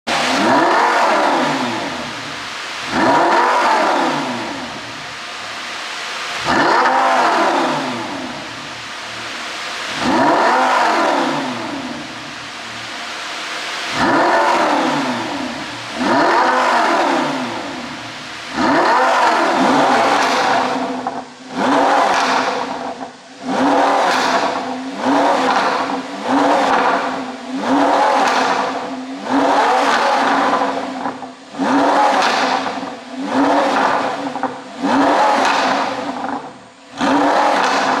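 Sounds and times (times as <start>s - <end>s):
car engine revving with crackles: 0.0s - 38.0s.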